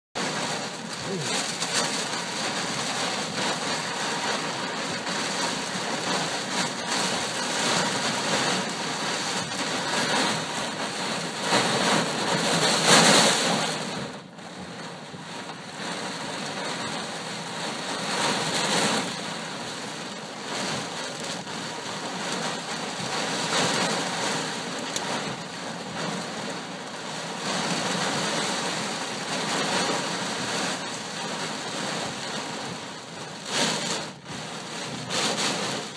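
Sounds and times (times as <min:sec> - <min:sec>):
heavy rain: 0:00.2 - 0:35.9
wind: 0:00.2 - 0:35.9.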